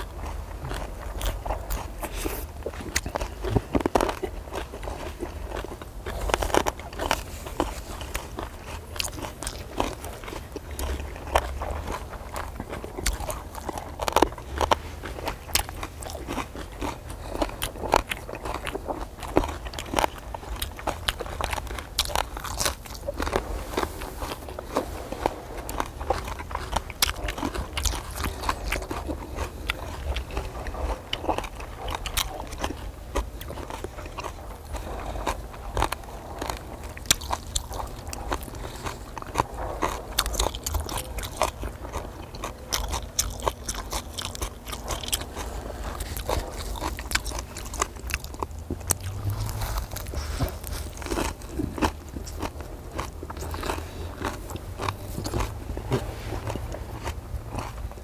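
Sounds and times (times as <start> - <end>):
crunchy chewing and biting: 0.0 - 58.0.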